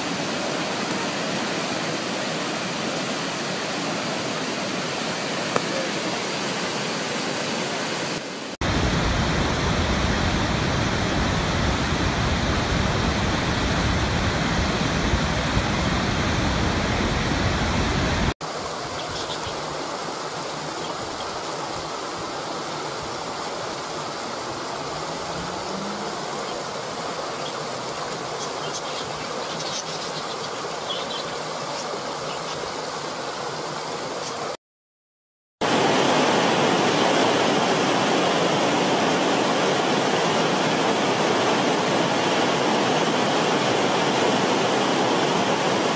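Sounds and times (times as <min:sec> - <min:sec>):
rushing water: 0:00.0 - 0:34.6, 0:35.6 - 0:45.9.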